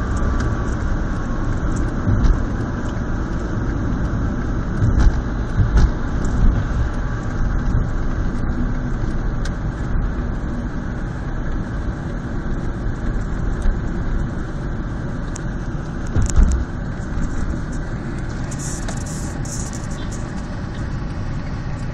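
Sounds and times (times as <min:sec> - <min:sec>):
tyres rumbling on road: 0:00.0 - 0:21.9.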